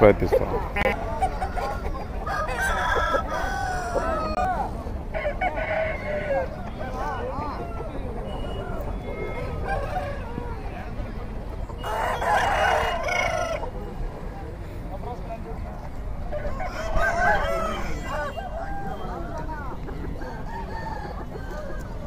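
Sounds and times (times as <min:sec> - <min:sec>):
roosters crowing: 0:00.9 - 0:11.0, 0:11.7 - 0:13.8, 0:16.3 - 0:22.0.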